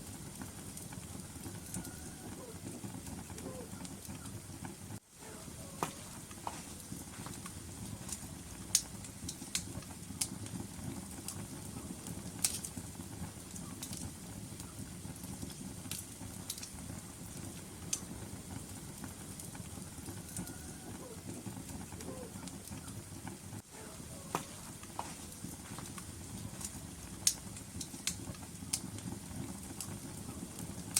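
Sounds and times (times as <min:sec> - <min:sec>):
burning logs crackling and popping: 0:00.0 - 0:30.9
flames rushing in fireplace: 0:00.0 - 0:30.9.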